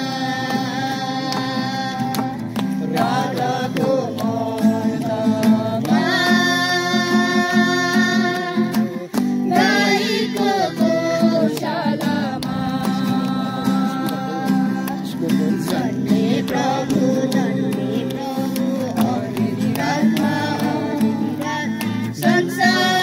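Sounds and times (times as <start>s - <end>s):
child singing into a microphone: 0.0s - 4.2s, 4.8s - 15.1s, 15.7s - 23.0s
other voices singing: 0.0s - 23.0s
strummed acoustic guitar: 0.0s - 23.0s.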